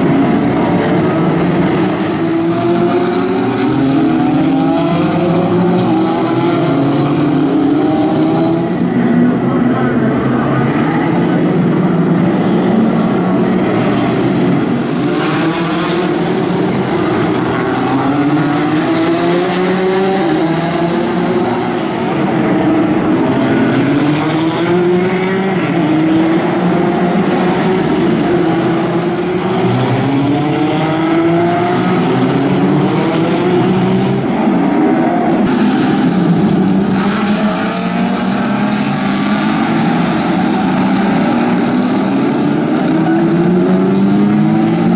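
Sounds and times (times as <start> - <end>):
racing car engines accelerating: 0.0 - 44.9.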